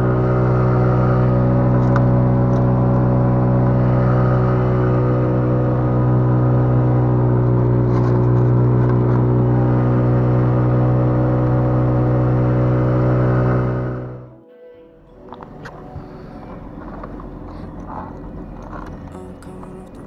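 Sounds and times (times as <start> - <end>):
low-pitched drone: 0.0 - 20.0.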